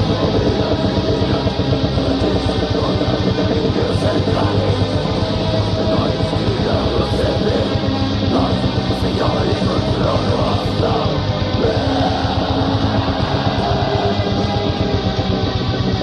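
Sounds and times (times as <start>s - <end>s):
distorted electric guitars: 0.0s - 16.0s.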